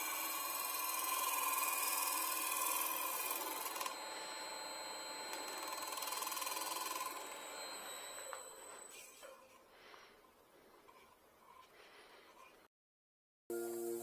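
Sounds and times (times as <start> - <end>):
wood lathe whining: 0.0 - 12.4.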